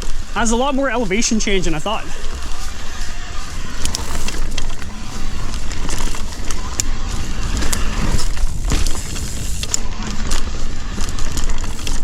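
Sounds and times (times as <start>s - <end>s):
wind and tyres rumbling: 0.0s - 12.0s
bike clicks and rattles: 2.0s - 12.0s.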